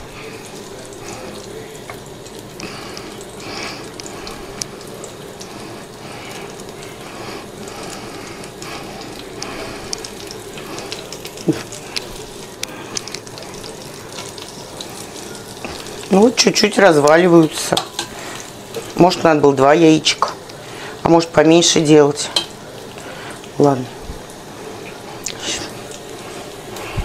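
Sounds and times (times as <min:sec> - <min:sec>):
oil sizzling in a frying pan: 0:00.0 - 0:27.0.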